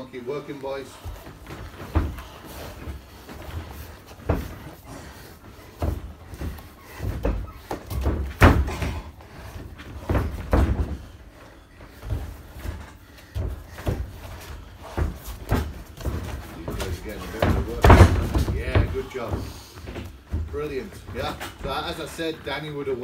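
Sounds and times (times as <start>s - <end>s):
bodies thudding on mat: 1.0s - 22.0s.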